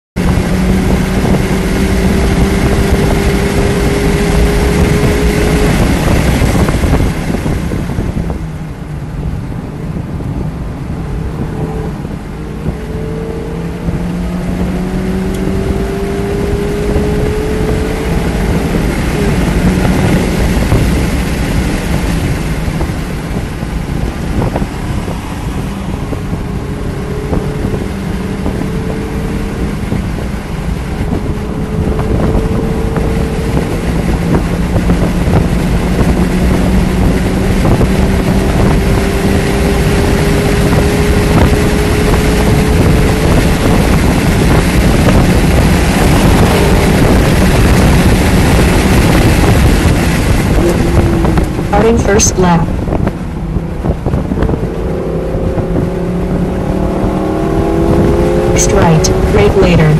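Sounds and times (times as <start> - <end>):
wind noise: 0.2 - 51.8, 52.6 - 59.3
car engine running hard: 0.2 - 59.9.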